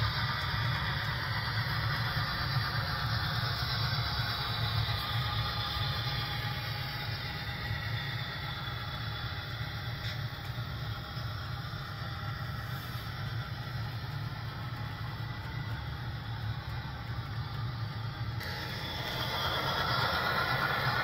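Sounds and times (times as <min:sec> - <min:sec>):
model train rolling on track: 0:00.0 - 0:21.0.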